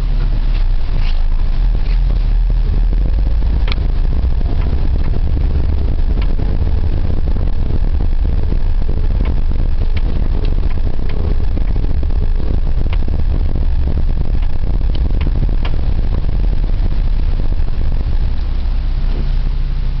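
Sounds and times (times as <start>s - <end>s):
car driving low rumble: 0.0s - 20.0s
suspension knocks: 0.1s - 19.4s.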